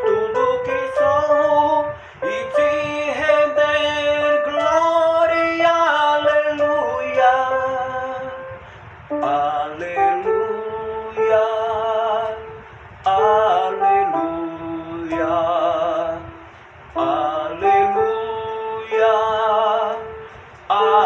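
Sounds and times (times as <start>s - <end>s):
electronic keyboard: 0.0s - 21.0s
man singing a slow hymn: 0.0s - 21.0s.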